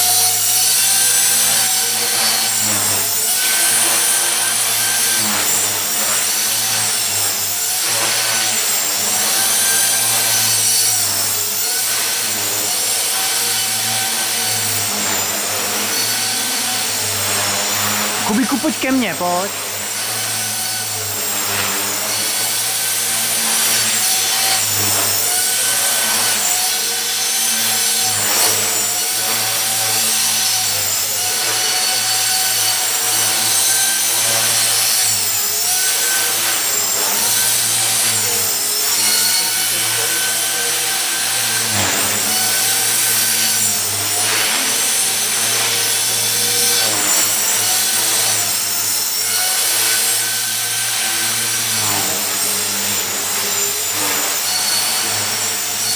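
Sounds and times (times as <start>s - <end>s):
rc helicopter motor whine: 0.0s - 17.8s, 19.9s - 55.9s.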